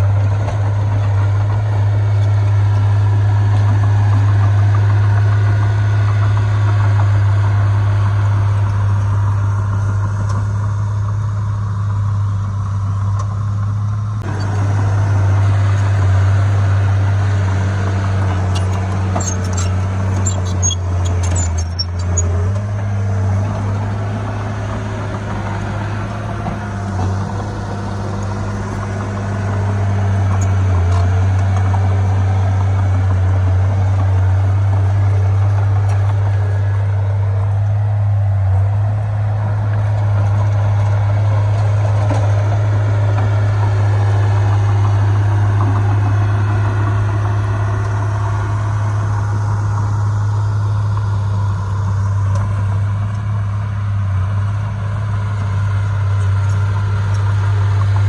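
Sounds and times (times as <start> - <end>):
diesel engine deep hum: 0.0 - 58.0.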